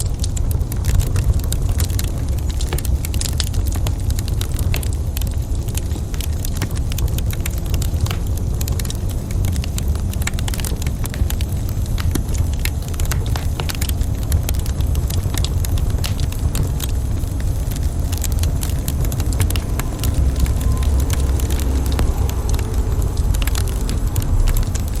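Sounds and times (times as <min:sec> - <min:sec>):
wood fire crackling in fireplace: 0:00.0 - 0:25.0.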